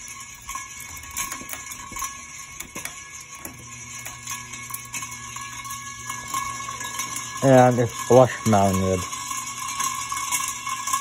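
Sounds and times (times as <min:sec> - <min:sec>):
ceiling fan motor hum and whine: 0:00.0 - 0:11.0.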